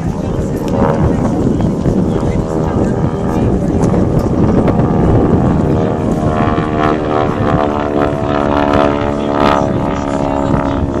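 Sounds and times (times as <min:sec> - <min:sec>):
propeller plane flying overhead: 0:00.0 - 0:11.0.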